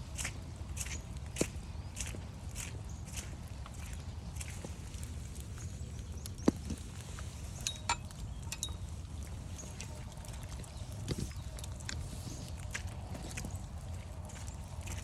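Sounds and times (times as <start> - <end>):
footsteps on wet trail: 0.0 - 15.0
steady low rumble: 0.0 - 15.0.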